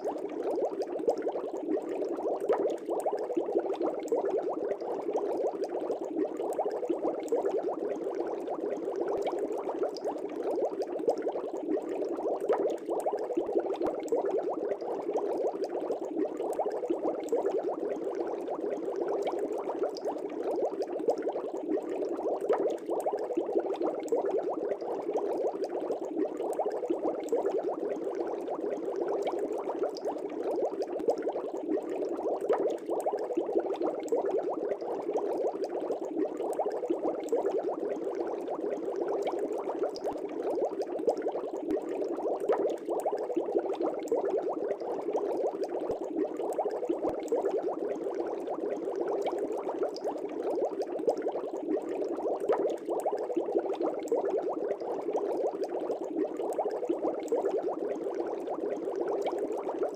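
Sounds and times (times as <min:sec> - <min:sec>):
aquarium air bubbling: 0:00.0 - 0:59.9.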